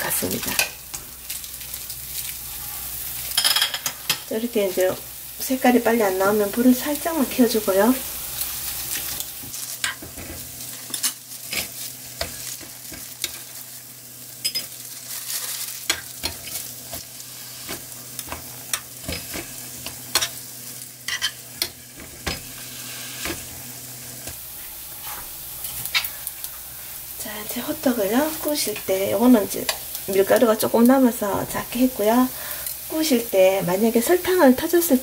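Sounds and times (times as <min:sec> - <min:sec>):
food sizzling in oil: 0:00.0 - 0:35.0.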